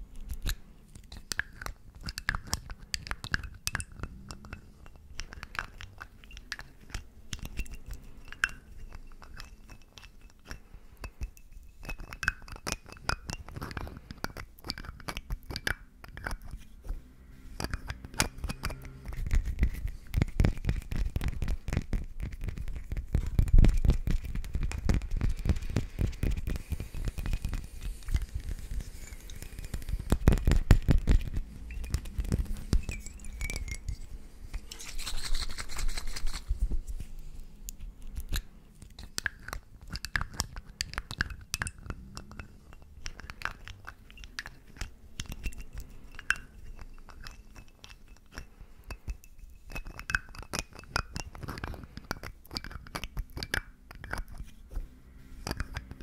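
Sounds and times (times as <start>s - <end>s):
fingernails tapping on glass bottles: 0.4s - 16.6s, 17.6s - 34.7s, 39.0s - 54.6s, 55.4s - 56.0s.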